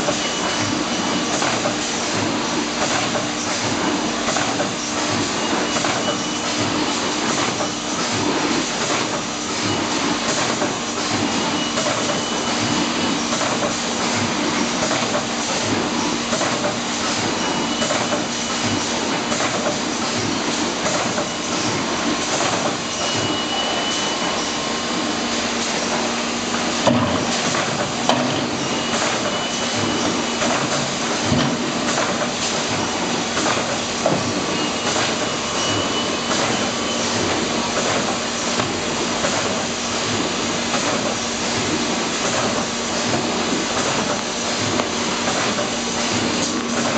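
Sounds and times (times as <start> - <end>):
machine clatter: 0.0 - 46.9
machine hum and hiss: 0.0 - 46.9.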